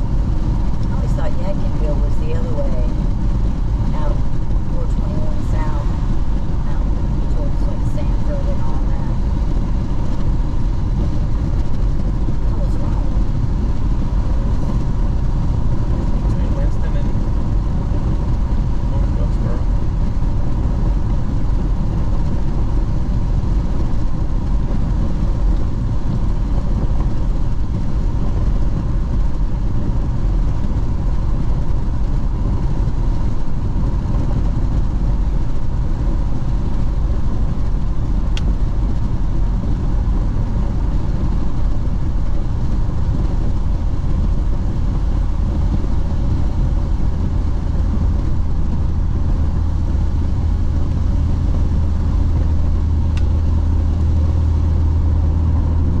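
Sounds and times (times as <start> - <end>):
car engine drone: 0.0 - 56.0
deep hum: 0.0 - 56.0
tyre and road noise: 0.0 - 56.0.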